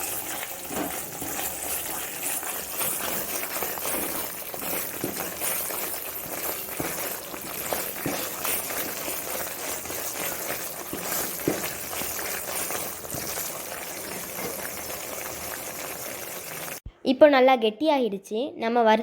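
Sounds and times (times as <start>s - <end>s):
food bubbling and sizzling in pan: 0.0s - 16.8s
spoon scraping pan: 0.0s - 16.8s.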